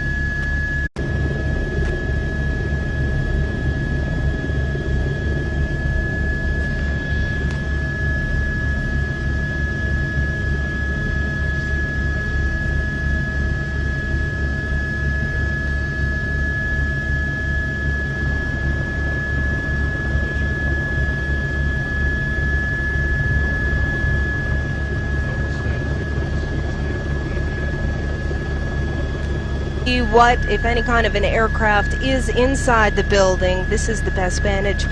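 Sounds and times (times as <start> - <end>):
helicopter rotor and engine throb: 0.0 - 34.9
high-pitched whine: 0.0 - 34.9.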